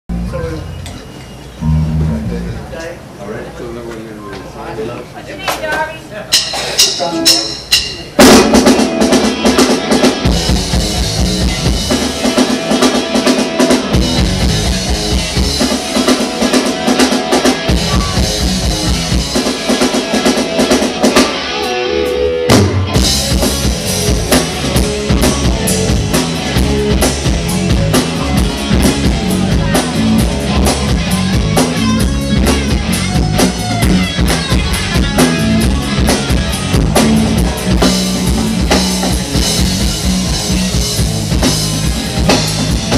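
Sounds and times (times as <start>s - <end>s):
rock band playing: 0.1s - 3.2s, 5.7s - 42.9s.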